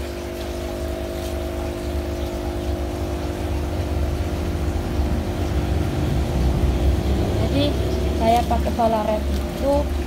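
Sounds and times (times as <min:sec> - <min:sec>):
steady motor hum: 0:00.0 - 0:10.0.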